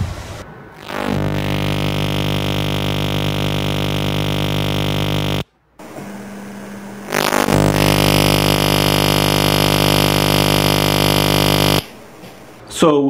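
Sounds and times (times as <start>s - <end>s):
loud electrical mains buzz: 0.7s - 12.7s.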